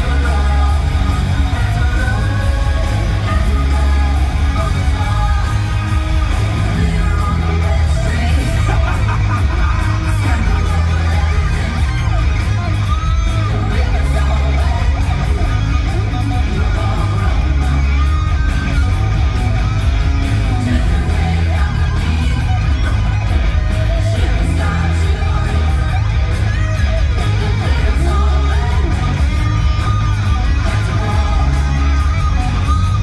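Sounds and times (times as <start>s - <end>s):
electric guitar: 0.0s - 33.0s
heavy bass: 0.0s - 33.0s.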